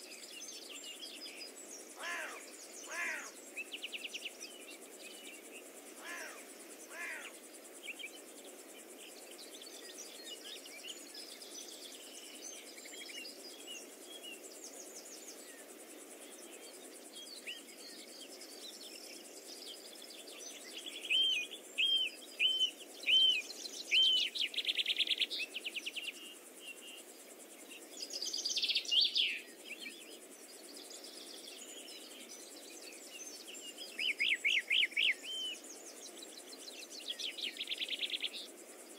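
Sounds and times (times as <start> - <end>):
birds singing whistles and trills: 0.0 - 15.7, 16.3 - 27.0, 27.6 - 38.6
insects hissing: 0.0 - 38.9.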